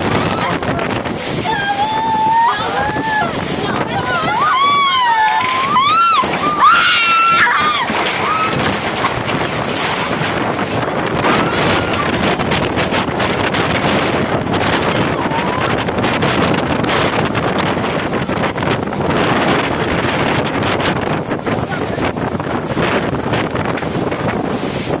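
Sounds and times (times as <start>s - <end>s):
strong wind on microphone: 0.0s - 25.0s.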